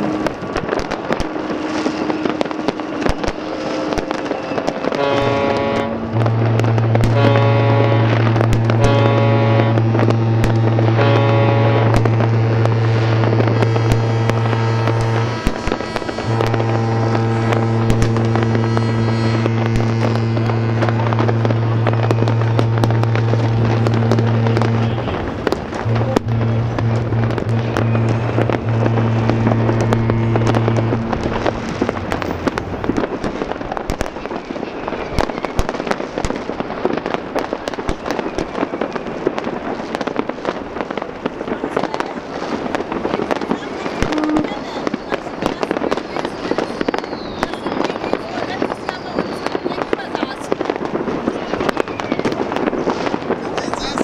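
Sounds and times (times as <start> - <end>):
ships' horns blowing deep blasts: 0.0 - 37.2, 38.5 - 45.9
fireworks bangs and crackles: 0.0 - 54.0.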